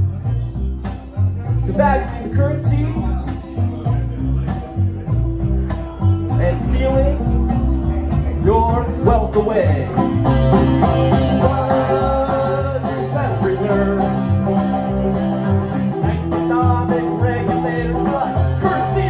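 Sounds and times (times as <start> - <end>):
banjo picking: 0.0 - 19.0
plucked upright bass: 0.0 - 19.0.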